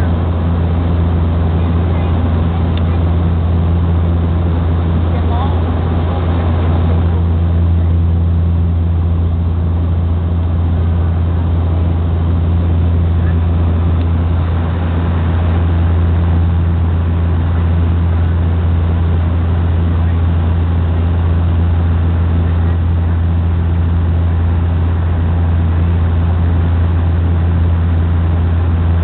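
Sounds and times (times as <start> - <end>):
propeller engines droning: 0.0 - 29.0.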